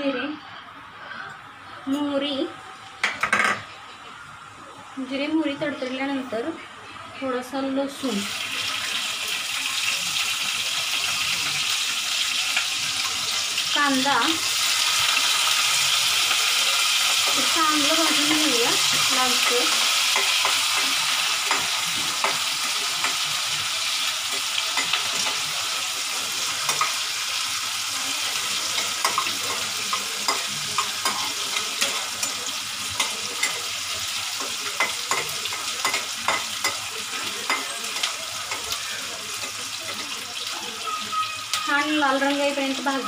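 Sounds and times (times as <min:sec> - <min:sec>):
onion sizzling in hot oil: 0:07.5 - 0:43.0.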